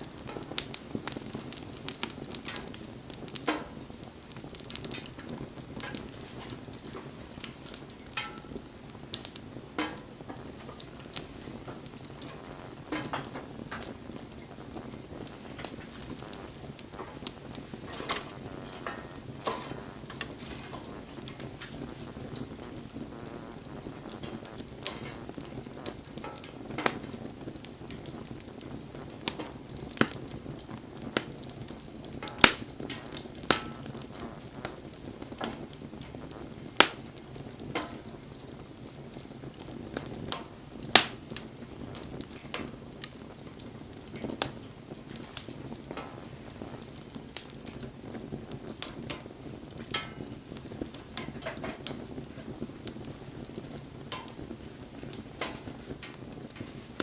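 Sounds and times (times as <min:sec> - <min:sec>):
bonfire flame rushing: 0:00.0 - 0:57.0
fire crackles and pops: 0:00.0 - 0:57.0.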